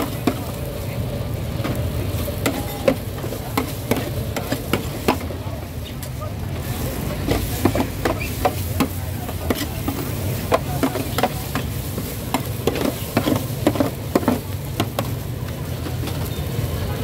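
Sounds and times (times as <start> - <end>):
food sizzling with low rumble: 0.0 - 17.0
metal spatula scraping wok: 1.6 - 16.7.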